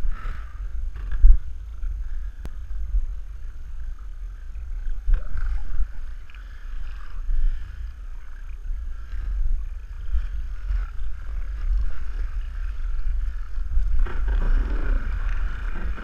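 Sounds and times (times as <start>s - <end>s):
jet ski engine running: 0.0s - 16.0s
wind buffeting microphone: 0.0s - 16.0s.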